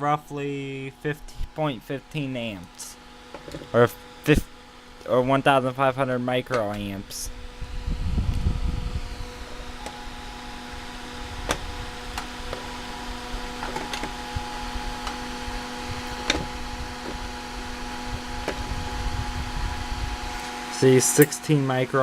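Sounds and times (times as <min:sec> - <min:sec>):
electric fan motor humming: 0:00.0 - 0:22.0.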